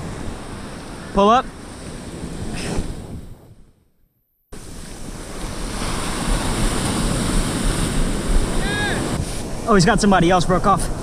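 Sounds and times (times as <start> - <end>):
ocean surf breaking: 0.0 - 3.5, 4.6 - 11.0
wind buffeting microphone: 0.0 - 3.8, 4.6 - 11.0.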